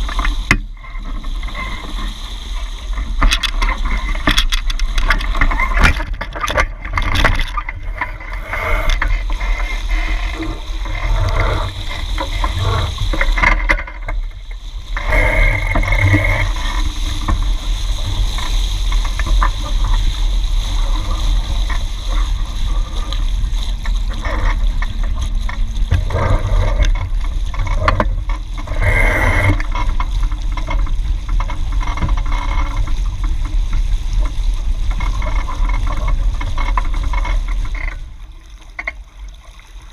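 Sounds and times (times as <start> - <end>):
water rushing along boat hulls: 0.0 - 39.9
wind rumbling on microphone: 0.0 - 39.9.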